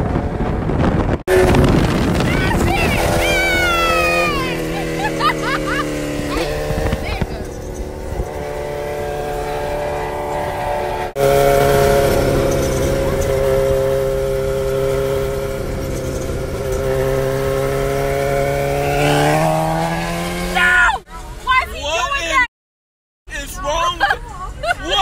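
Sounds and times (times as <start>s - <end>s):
motorcycle engine accelerating: 0.0s - 21.1s.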